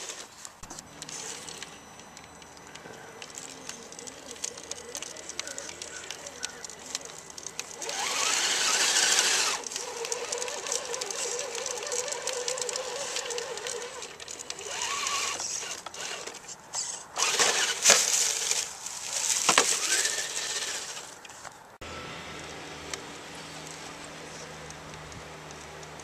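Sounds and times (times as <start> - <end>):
noisy bursts: 0.0 - 21.2
toy car motor and gears whining: 0.0 - 26.0.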